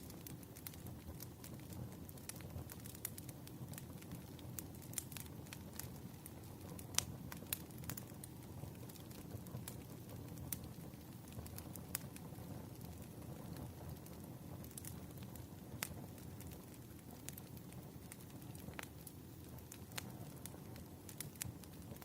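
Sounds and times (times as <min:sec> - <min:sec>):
campfire crackling: 0:00.0 - 0:22.0
fire pops and snaps: 0:00.0 - 0:22.0.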